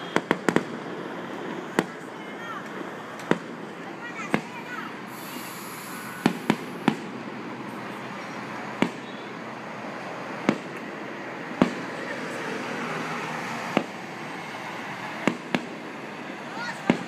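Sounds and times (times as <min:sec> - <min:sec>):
fireworks bangs: 0:00.0 - 0:12.6, 0:13.4 - 0:17.0.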